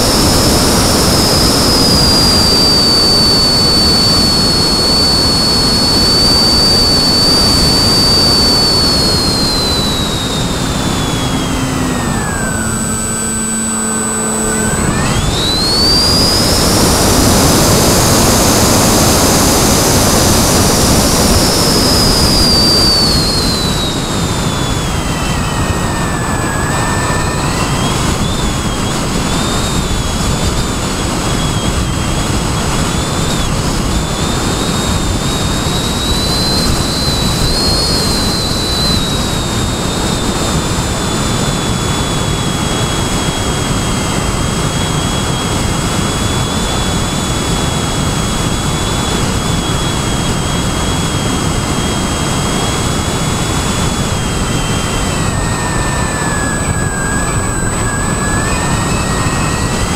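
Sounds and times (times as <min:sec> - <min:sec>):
model airplane motor whine: 0:00.0 - 0:59.9
wind rush: 0:00.0 - 0:59.9.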